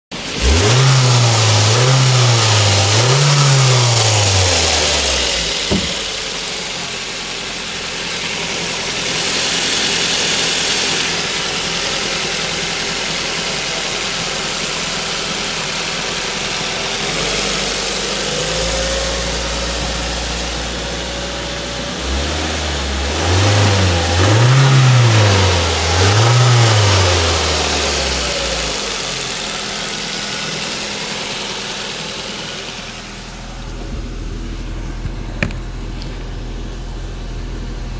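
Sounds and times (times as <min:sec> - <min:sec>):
car engine revving and idling: 0:00.1 - 0:37.9.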